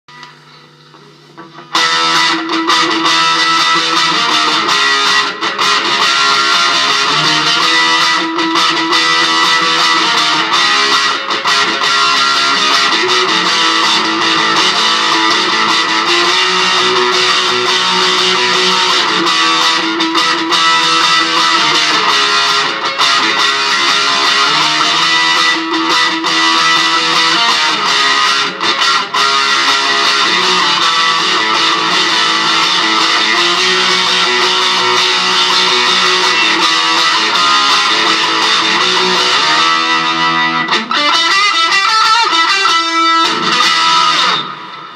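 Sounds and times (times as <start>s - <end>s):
electric guitar strummed chords: 0.1s - 44.9s.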